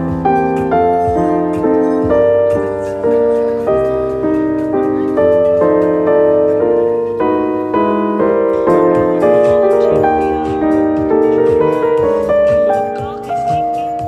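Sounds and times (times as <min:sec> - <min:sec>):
instrumental piano music: 0:00.0 - 0:14.0.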